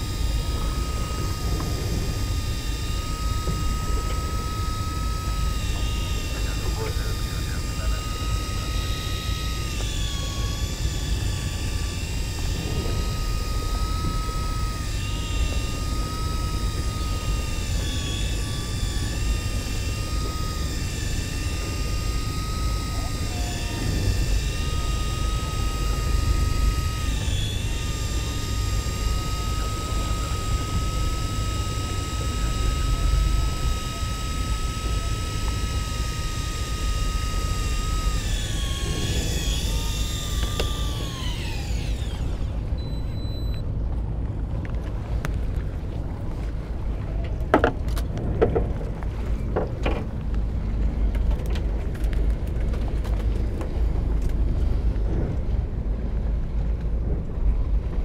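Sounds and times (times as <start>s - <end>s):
boat engine rumble: 0.0s - 58.0s
fishing reel motor whine: 0.0s - 58.0s.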